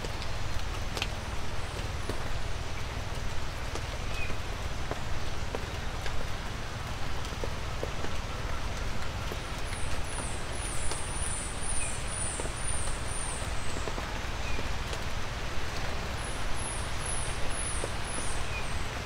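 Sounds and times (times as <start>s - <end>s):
raindrops ticking: 0.0s - 18.7s
light rain hissing: 0.0s - 19.0s.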